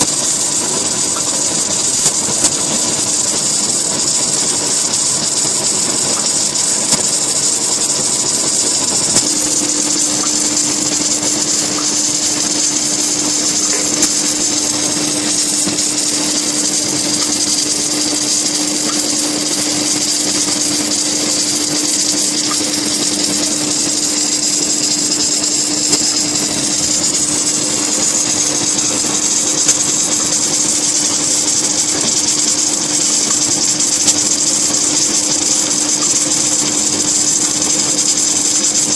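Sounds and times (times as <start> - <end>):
machine hum: 0.0 - 38.9
welding machine hiss: 0.0 - 38.9.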